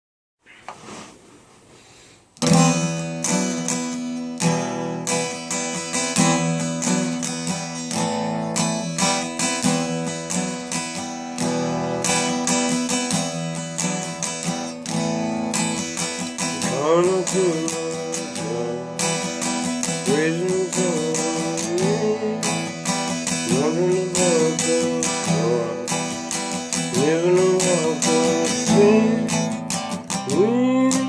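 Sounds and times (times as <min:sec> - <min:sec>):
acoustic guitar strumming chords: 0:02.4 - 0:31.0.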